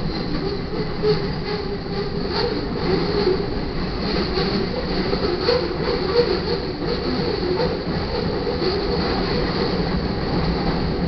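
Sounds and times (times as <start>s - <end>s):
steel wheels rumbling on rail: 0.0s - 11.0s
train clicks and clanks: 0.0s - 11.0s.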